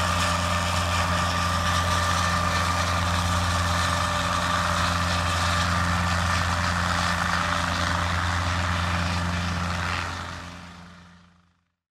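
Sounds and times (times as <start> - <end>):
distant helicopter engine and rotors: 0.0 - 11.8.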